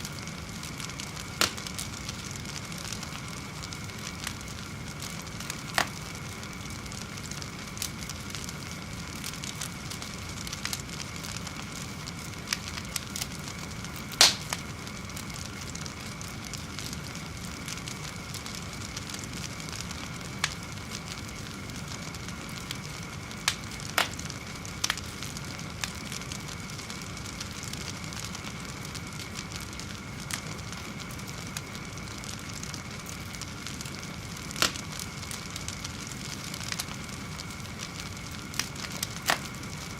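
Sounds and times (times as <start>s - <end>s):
fire hissing and crackling: 0.0s - 39.9s.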